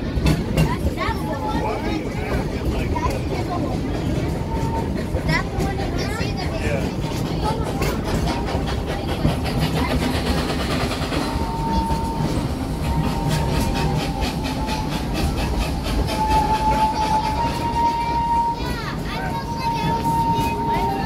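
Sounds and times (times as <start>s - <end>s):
train coaches rumbling: 0.0s - 21.0s
wheels clicking on rails: 0.0s - 21.0s
high wheel squeal: 0.9s - 21.0s.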